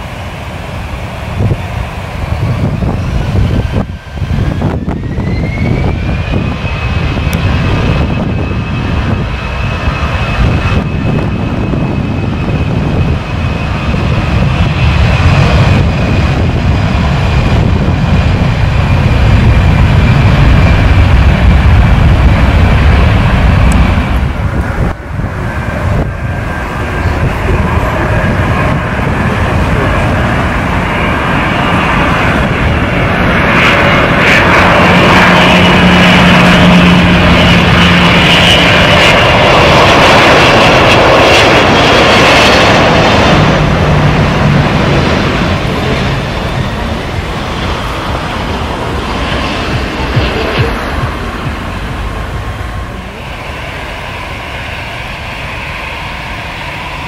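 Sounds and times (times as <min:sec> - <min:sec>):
airliner engines rumbling: 0:00.0 - 0:57.0
rising engine whine: 0:00.0 - 0:57.0.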